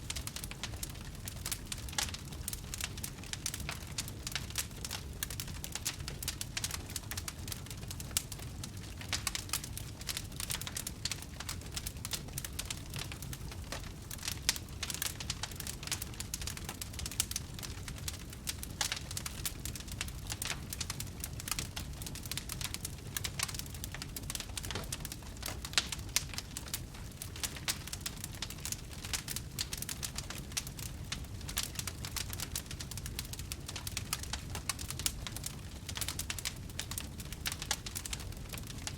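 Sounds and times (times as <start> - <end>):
low rumble of burning wood: 0.0 - 38.9
wood fire crackling: 0.0 - 38.9
fire pops and snaps: 0.1 - 38.9.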